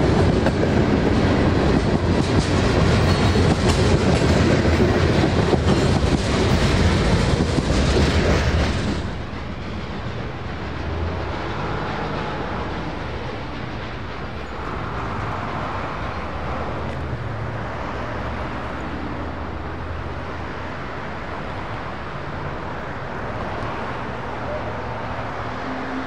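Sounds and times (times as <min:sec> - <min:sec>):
freight car wheels on track: 0:00.0 - 0:26.0.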